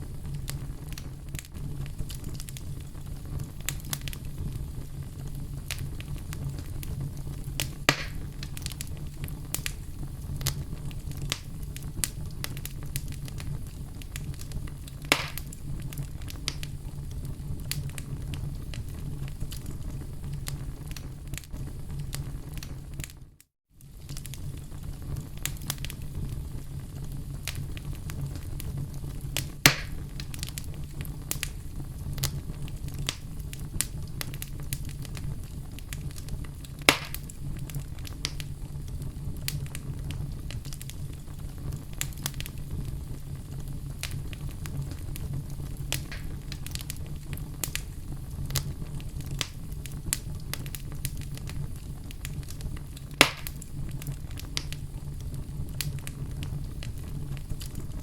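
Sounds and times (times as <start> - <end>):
burning wood crackling and popping: 0.0 - 58.0
campfire low rumble: 0.0 - 58.0.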